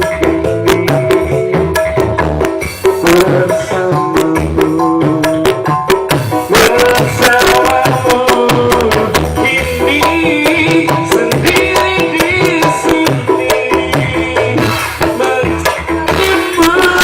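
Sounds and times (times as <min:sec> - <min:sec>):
drums keeping a steady beat: 0:00.0 - 0:17.0
high lead melody: 0:00.0 - 0:17.0.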